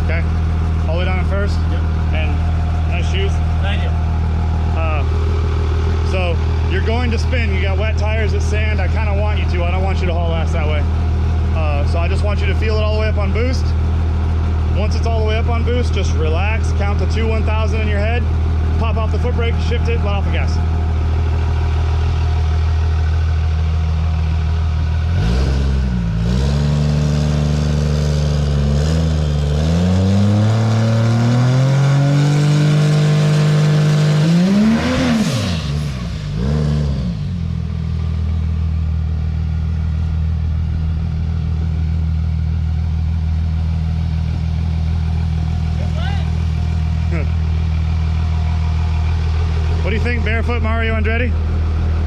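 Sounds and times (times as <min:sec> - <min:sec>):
diesel truck engine revving: 0:00.0 - 0:52.0.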